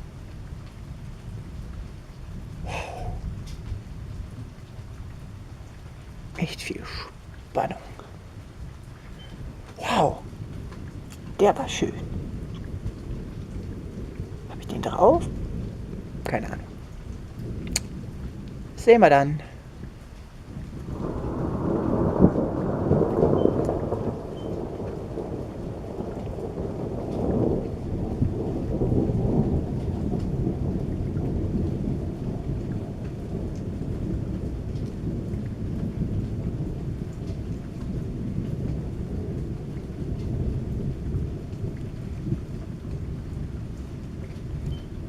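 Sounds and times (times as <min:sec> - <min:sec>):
rain falling: 0:00.0 - 0:45.0
rolling thunder: 0:00.0 - 0:45.0.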